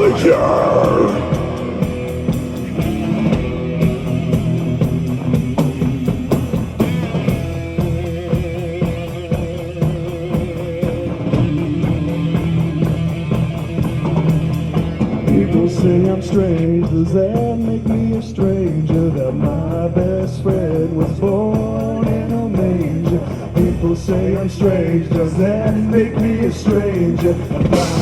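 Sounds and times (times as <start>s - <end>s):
distorted electric guitars: 0.0s - 28.0s
drum kit: 0.0s - 28.0s.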